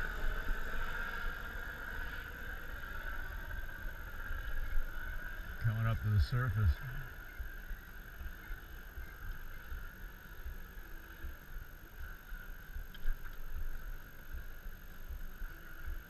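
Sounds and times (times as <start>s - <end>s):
constant hiss: 0.0s - 16.0s.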